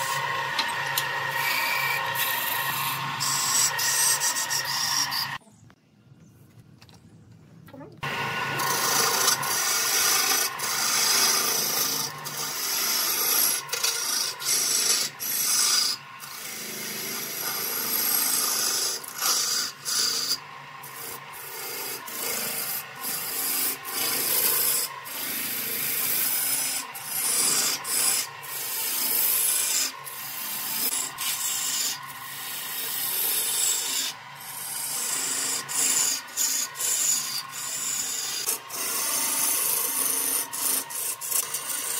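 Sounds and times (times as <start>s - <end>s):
lathe tool scraping wood: 0.0s - 5.4s, 8.0s - 41.9s.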